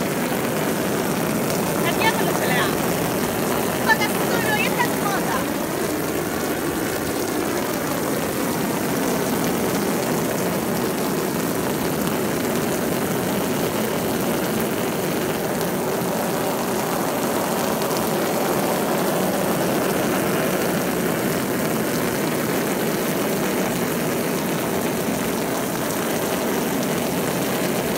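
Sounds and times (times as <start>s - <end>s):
water jet spraying on fabric: 0.0s - 27.9s.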